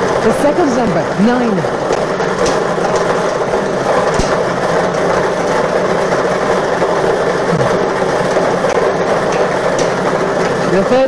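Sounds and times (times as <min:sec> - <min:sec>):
lottery machine running: 0:00.0 - 0:11.0.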